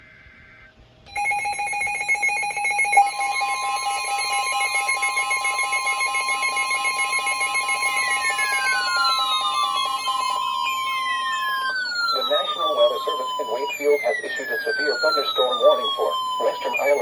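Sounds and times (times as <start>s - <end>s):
pulsing electronic alert tones: 1.1s - 17.0s
steady alert tone: 2.7s - 17.0s.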